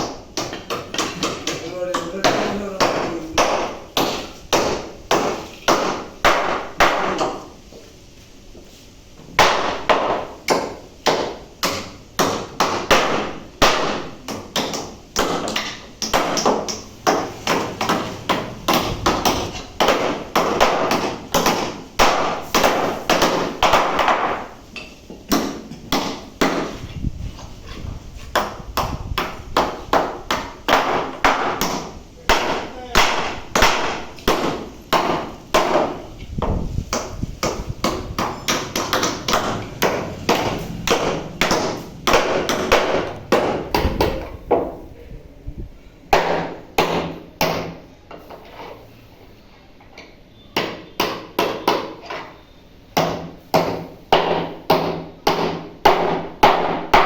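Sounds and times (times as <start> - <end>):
hand tool hammering: 0.0 - 7.6, 9.2 - 44.8, 46.1 - 47.8, 50.6 - 52.4, 53.0 - 57.0.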